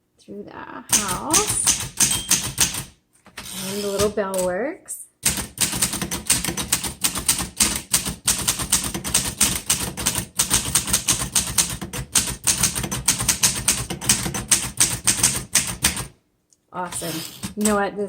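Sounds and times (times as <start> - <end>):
manual typewriter typing: 0.9 - 4.6, 5.2 - 16.1, 16.8 - 17.9.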